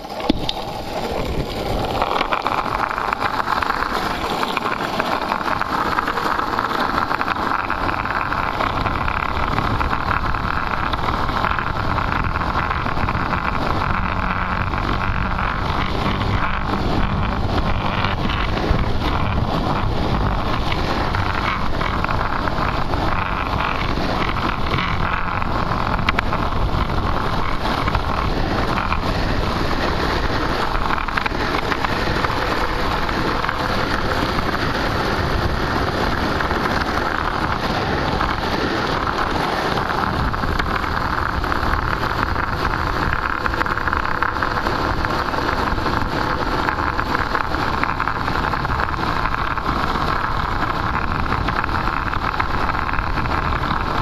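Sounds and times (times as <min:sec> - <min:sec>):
skateboard wheels rolling on asphalt: 0:00.0 - 0:54.0
wind rushing on microphone: 0:00.0 - 0:54.0.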